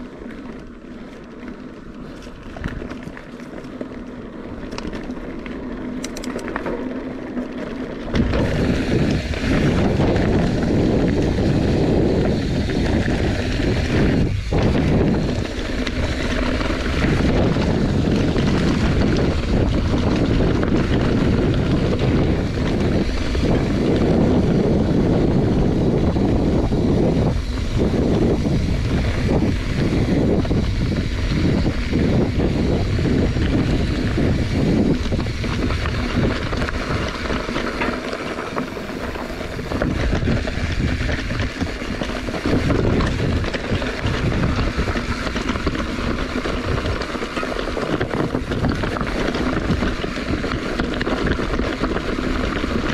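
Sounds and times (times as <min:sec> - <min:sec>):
wind rushing over microphone: 0:08.0 - 0:52.9.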